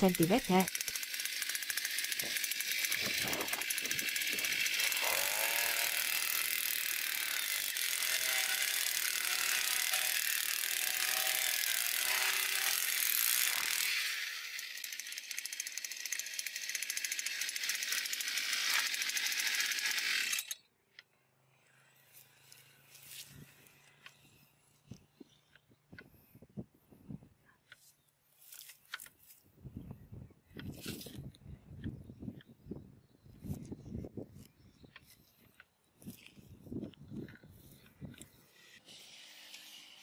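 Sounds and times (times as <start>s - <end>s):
earth auger engine boring soil: 0.0s - 29.8s, 30.5s - 40.0s.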